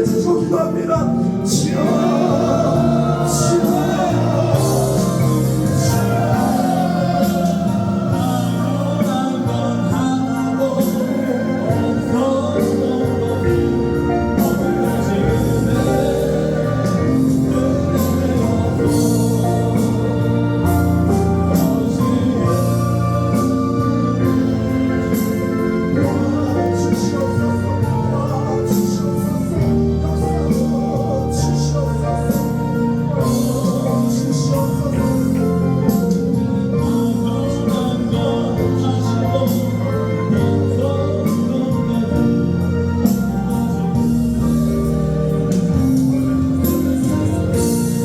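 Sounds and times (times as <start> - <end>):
gospel singing over a band: 0.0 - 48.0.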